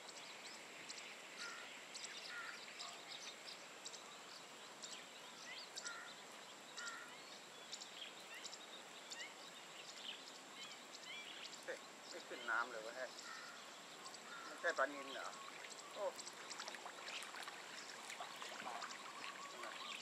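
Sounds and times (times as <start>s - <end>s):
birds chirping and whistling: 1.4s - 20.0s.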